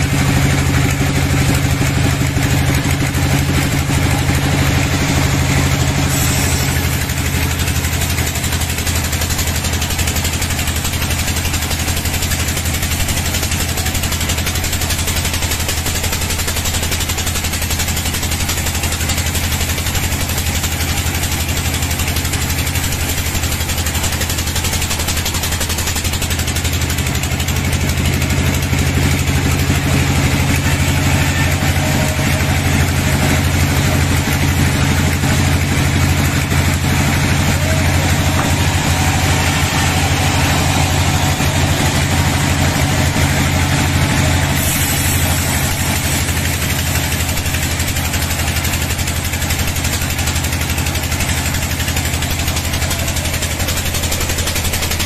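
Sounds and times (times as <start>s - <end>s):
band saw cutting a log: 0.0s - 55.0s.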